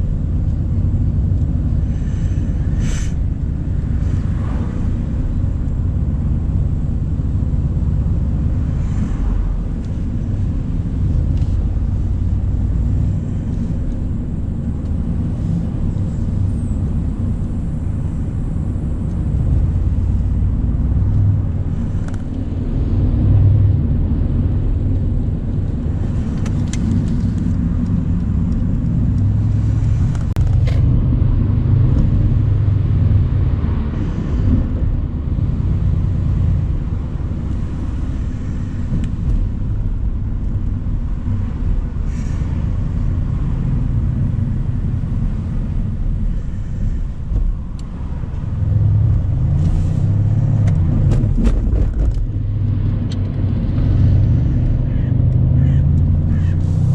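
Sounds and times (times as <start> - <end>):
car engine running: 0.0 - 56.9
road noise: 0.0 - 56.9.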